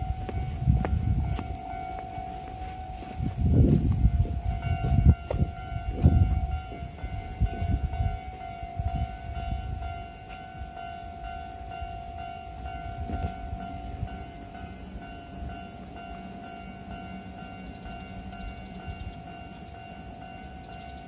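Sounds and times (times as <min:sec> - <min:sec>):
level crossing bell ringing: 0:00.0 - 0:21.0
passing train rumble and clatter: 0:00.0 - 0:21.0.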